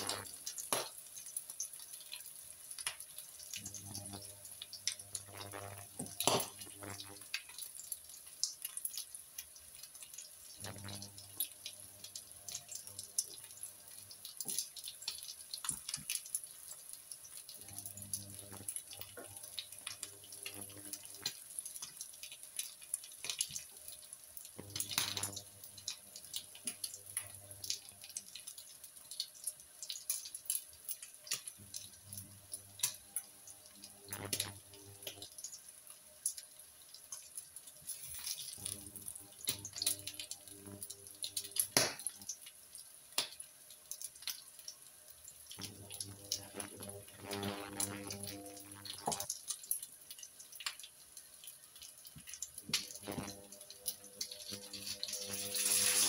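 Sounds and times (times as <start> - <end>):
patties sizzling in a frying pan: 0.0 - 56.0.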